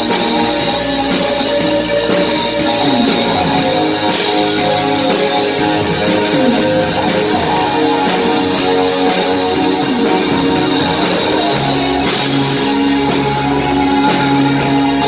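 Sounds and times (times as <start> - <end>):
new wave band playing live: 0.0 - 15.0.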